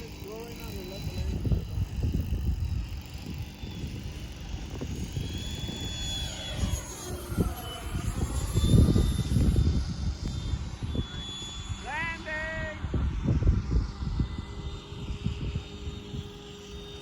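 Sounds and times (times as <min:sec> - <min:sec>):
electric jet fans whining: 0:00.0 - 0:17.0
wind rumbling on microphone: 0:00.0 - 0:17.0.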